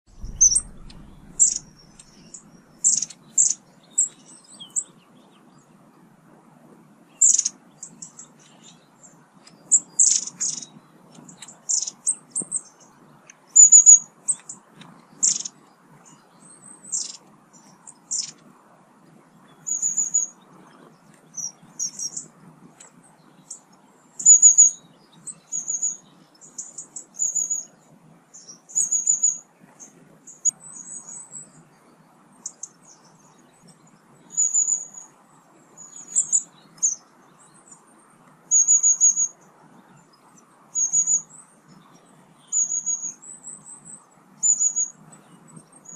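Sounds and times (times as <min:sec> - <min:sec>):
small birds chirping and trilling: 0:00.1 - 0:06.1, 0:07.0 - 0:45.9.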